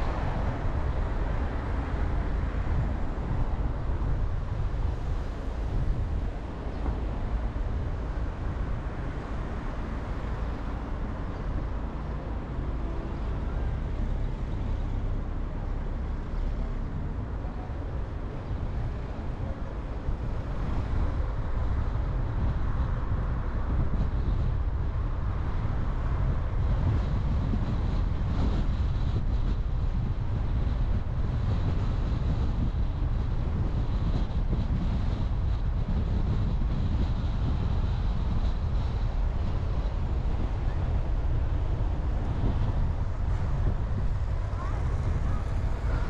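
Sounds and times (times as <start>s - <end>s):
car driving on road: 0.0s - 46.0s.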